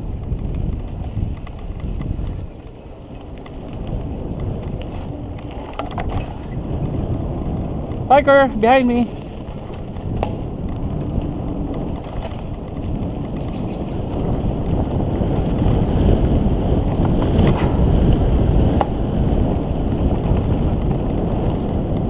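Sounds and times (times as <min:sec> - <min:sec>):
bike clicks and rattles: 0:00.0 - 0:22.0
tyres rolling over dirt: 0:00.0 - 0:22.0
wind rushing over microphone: 0:00.0 - 0:22.0.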